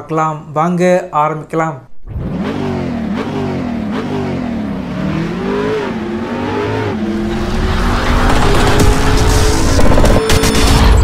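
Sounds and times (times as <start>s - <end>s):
car engine revving: 1.9s - 11.0s.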